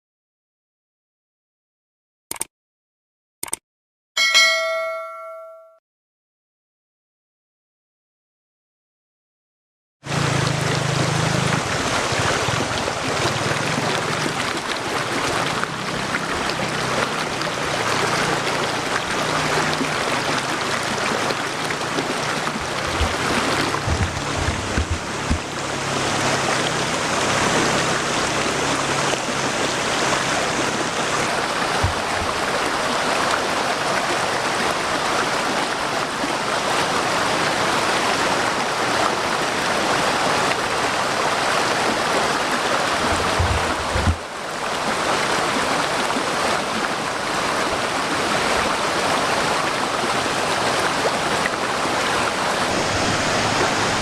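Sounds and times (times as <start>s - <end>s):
waterfall splashing over rocks: 10.1s - 54.0s.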